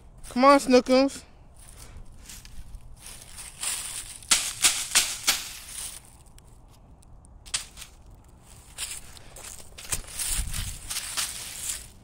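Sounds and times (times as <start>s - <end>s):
footsteps crunching dry leaves: 1.5s - 6.8s, 7.5s - 12.0s.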